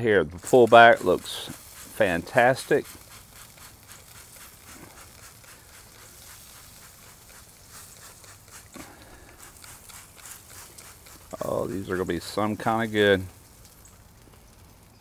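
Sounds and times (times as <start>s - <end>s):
spray bottle squirts: 0.0s - 13.9s.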